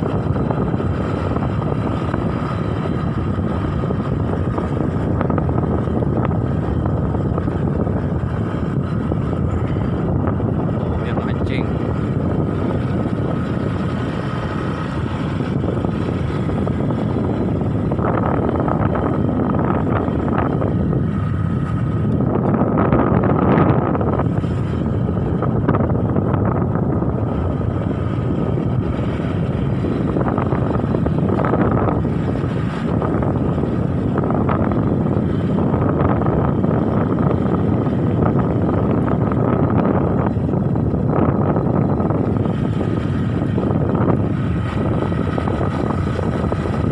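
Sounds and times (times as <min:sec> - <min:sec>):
steady low drone: 0:00.0 - 0:46.9
wind buffeting microphone: 0:00.0 - 0:46.9.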